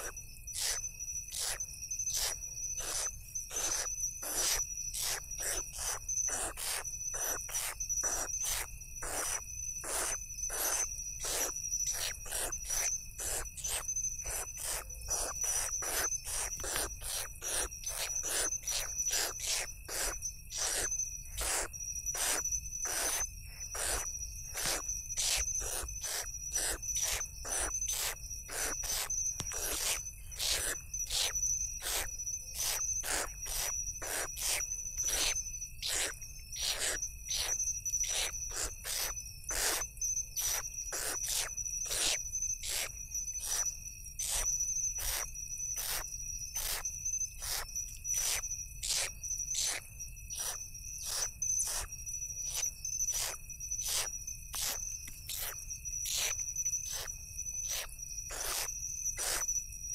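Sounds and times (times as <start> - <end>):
owl chicks hissing begging calls: 0.0 - 1.6, 2.2 - 39.8, 40.4 - 43.6, 44.2 - 45.2, 46.6 - 46.8, 47.4 - 47.6, 48.2 - 49.8, 50.4 - 51.9, 52.5 - 56.3, 56.9 - 57.1, 57.7 - 59.4
crickets trilling: 0.0 - 59.9.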